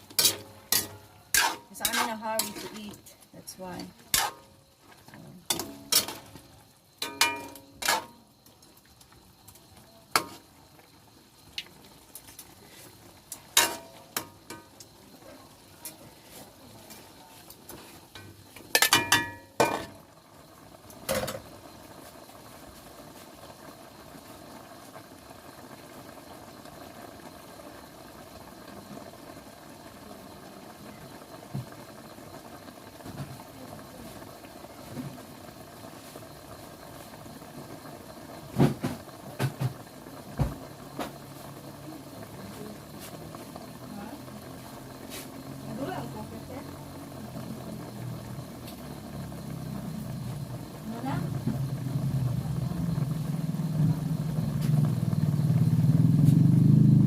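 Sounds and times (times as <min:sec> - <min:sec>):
pot simmering with faint hum: 0:00.0 - 0:57.0.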